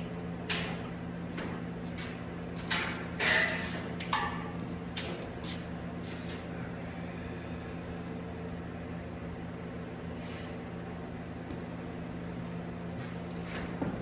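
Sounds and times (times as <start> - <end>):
electric machine hum: 0.0 - 14.0.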